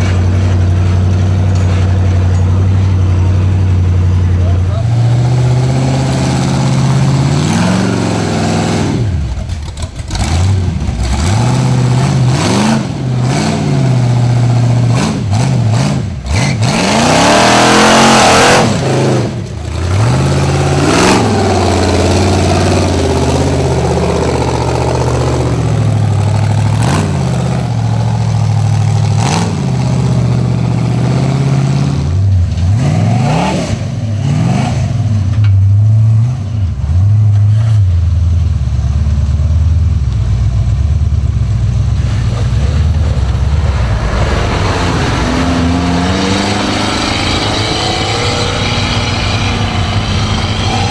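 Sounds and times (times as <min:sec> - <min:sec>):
buggy engines revving: 0:00.0 - 0:50.9.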